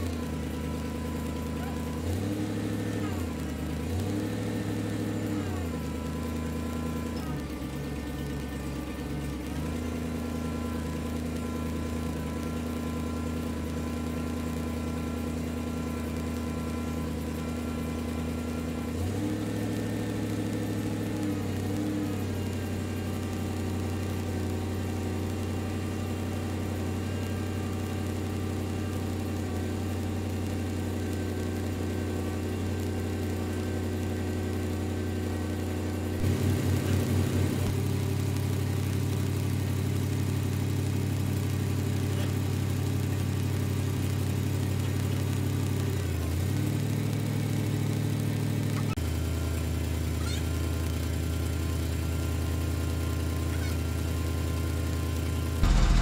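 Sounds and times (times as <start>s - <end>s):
hydraulic crane: 0.0s - 56.0s
truck engine running: 0.0s - 56.0s.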